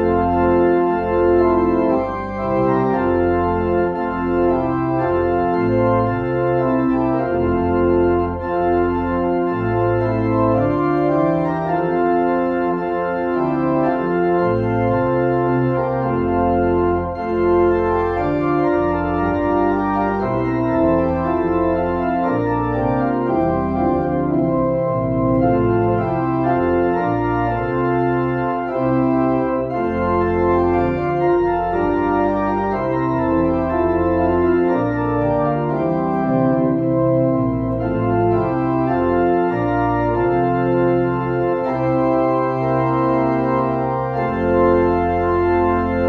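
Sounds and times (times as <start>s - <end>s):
organ playing sustained chords: 0.0s - 46.0s.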